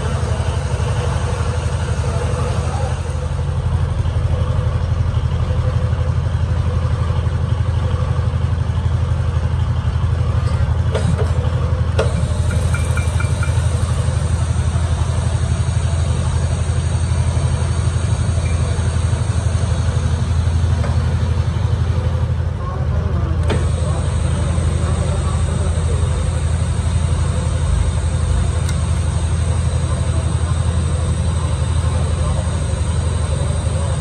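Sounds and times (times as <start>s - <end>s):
metal lathe running: 0.0s - 10.4s, 11.0s - 22.5s, 23.4s - 34.0s.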